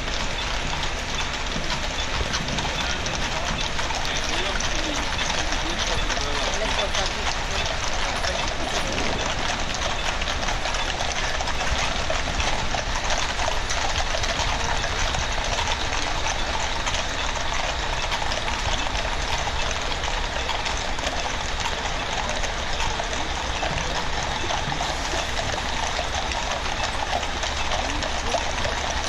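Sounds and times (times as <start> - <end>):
horses' hooves clattering on street: 0.0 - 29.0.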